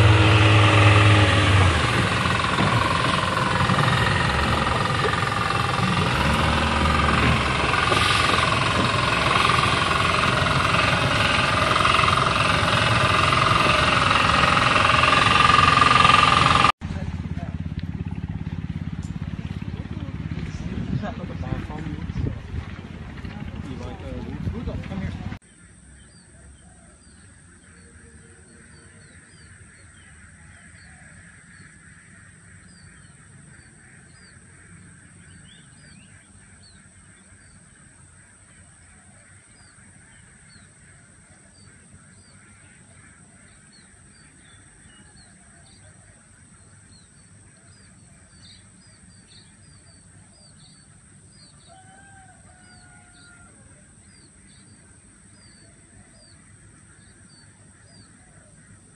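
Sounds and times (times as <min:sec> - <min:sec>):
birds chirping: 0:00.0 - 0:58.9.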